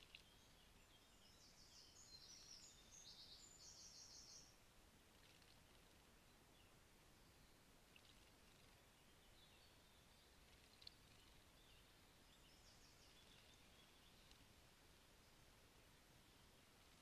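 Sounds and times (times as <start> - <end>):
background hiss: 0.0 - 17.0
faint birdsong chirps: 0.0 - 17.0.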